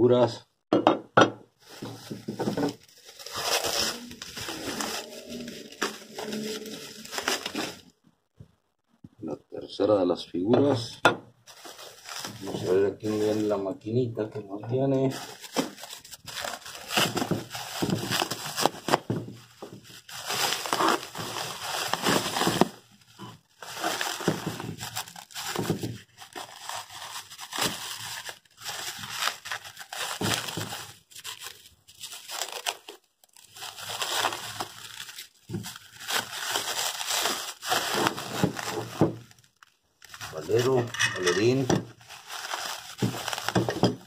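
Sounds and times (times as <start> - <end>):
plastic wrapping crinkling: 1.6 - 8.0, 11.5 - 13.7, 15.0 - 44.0.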